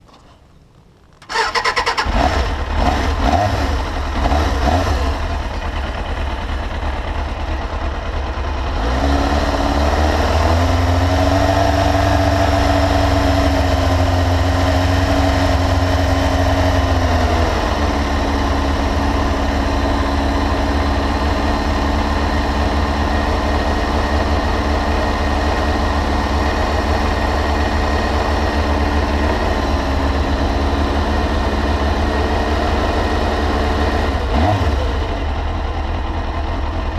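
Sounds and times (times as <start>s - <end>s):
motorcycle engine idling: 0.1s - 9.7s, 15.0s - 36.9s.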